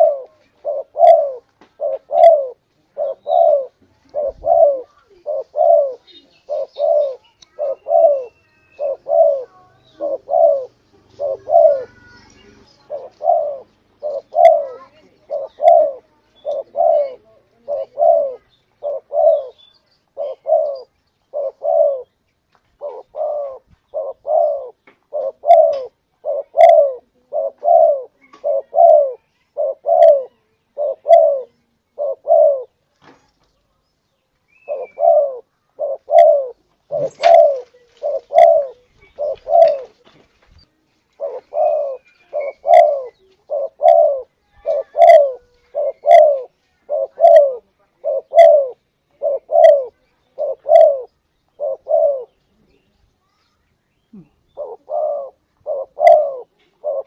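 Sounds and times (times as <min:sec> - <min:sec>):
dove cooing: 0:00.0 - 0:22.2, 0:22.8 - 0:32.8, 0:34.6 - 0:40.2, 0:41.1 - 0:52.4, 0:54.1 - 0:57.0.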